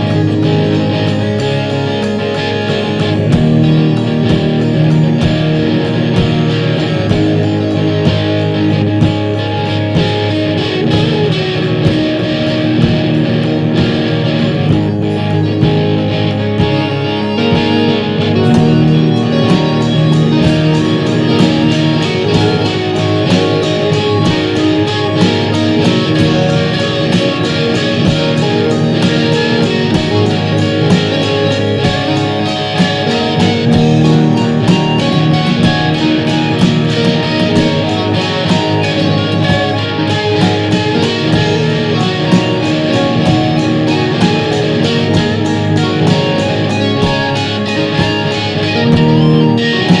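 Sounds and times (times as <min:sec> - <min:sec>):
electric guitar: 0:00.0 - 0:50.0
fast drum and cymbal strokes: 0:00.0 - 0:50.0
synth tones: 0:00.0 - 0:50.0.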